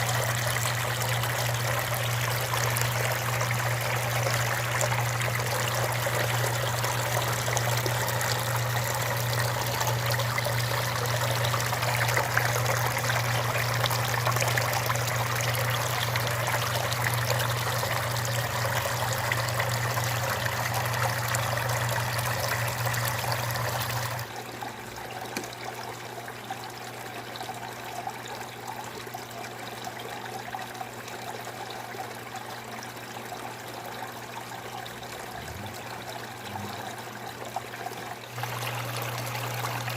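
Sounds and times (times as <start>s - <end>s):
low steady hum: 0.0s - 26.6s, 33.2s - 39.9s
fountain water trickling and splashing: 0.0s - 39.9s.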